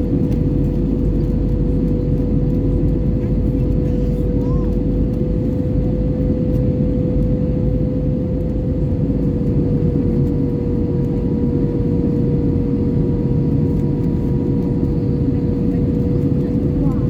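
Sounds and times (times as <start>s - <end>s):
airplane cabin engine roar: 0.0s - 17.0s.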